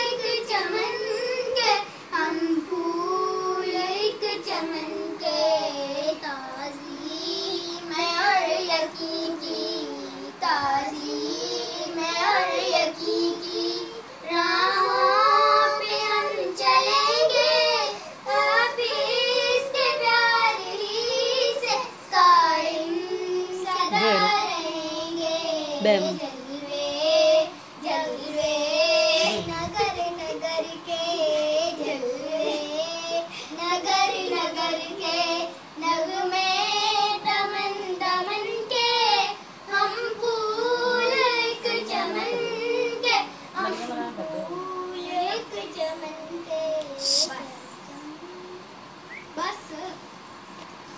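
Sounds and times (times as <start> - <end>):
child singing: 0.0 - 48.7.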